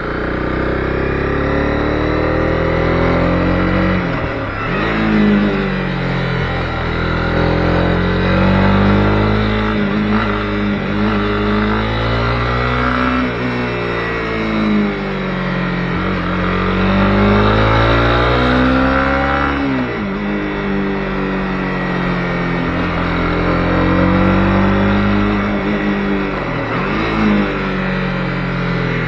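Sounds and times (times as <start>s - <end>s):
motorcycle engine under way: 0.0s - 29.0s.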